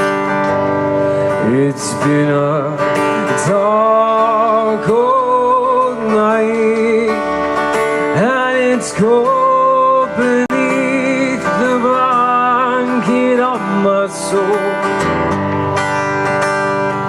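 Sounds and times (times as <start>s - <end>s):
strummed acoustic guitar: 0.0s - 17.0s
man singing with vibrato: 1.1s - 15.3s.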